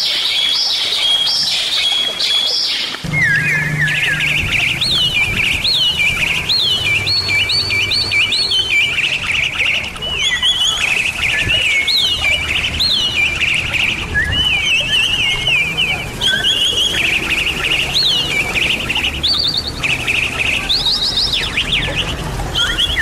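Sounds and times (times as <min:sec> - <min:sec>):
bird whistling song: 0:00.0 - 0:23.0.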